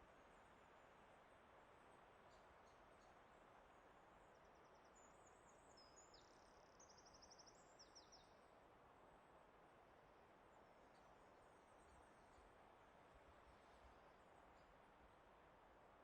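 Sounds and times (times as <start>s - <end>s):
soft forest hiss: 0.0s - 16.0s.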